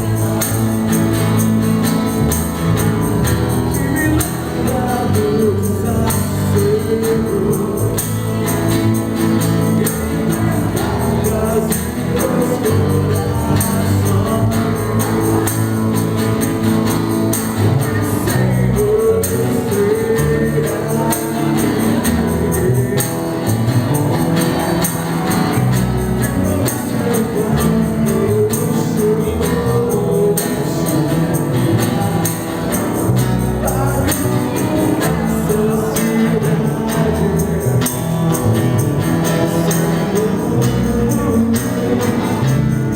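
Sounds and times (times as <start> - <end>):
person singing: 0.0 - 16.6, 17.4 - 42.9
acoustic guitars: 0.0 - 42.9
cajon beat: 0.0 - 42.9.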